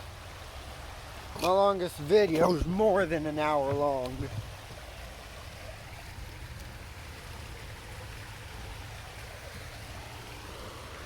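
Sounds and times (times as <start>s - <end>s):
fast-flowing creek: 0.0s - 11.0s.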